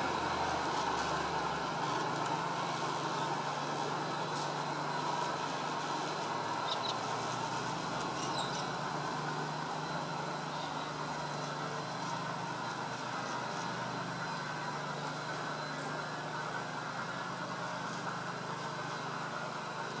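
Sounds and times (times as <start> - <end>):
model train rumbling along track: 0.0 - 20.0.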